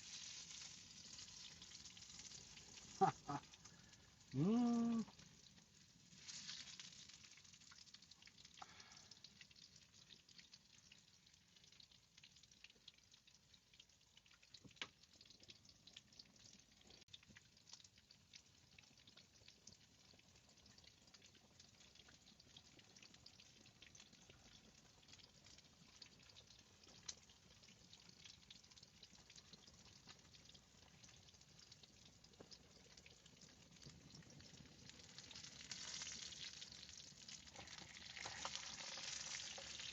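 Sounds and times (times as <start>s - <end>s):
food sizzling over a fire: 0.0s - 39.9s.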